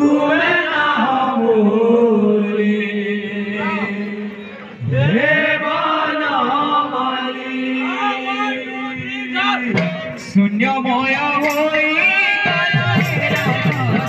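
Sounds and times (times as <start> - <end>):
men chanting devotional song: 0.0 - 14.0.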